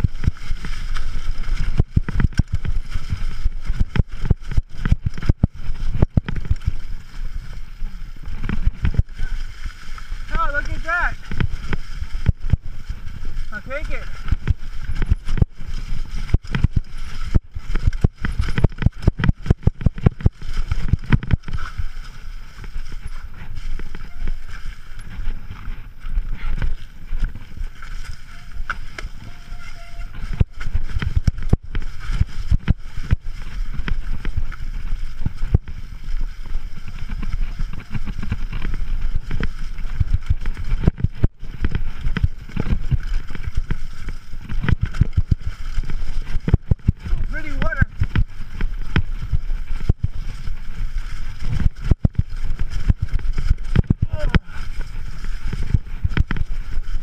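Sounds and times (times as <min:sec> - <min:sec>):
mountain bike rattling over rocks: 0:00.0 - 0:57.0.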